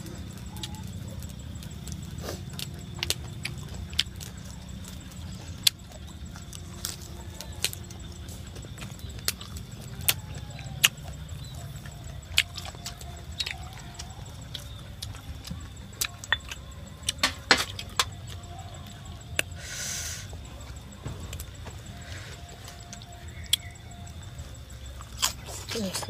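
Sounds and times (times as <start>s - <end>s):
leafy greens rustling: 0.0s - 26.0s
lip smacks and chewing clicks: 0.0s - 26.0s
low steady rumble: 0.0s - 26.0s.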